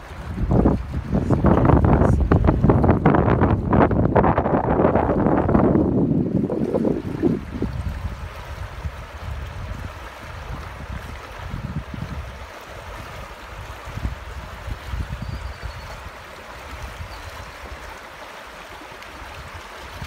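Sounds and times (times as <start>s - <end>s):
wind buffeting microphone: 0.0s - 17.8s
river water over rocks: 0.0s - 20.0s.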